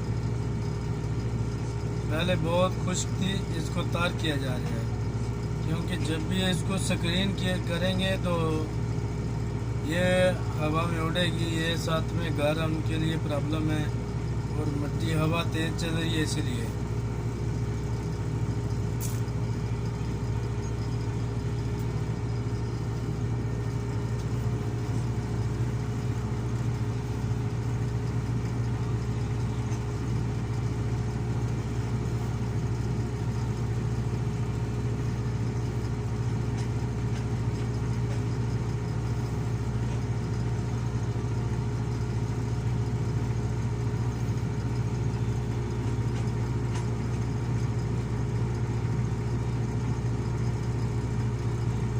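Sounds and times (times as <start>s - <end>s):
heavy vehicle engine humming: 0.0s - 51.9s.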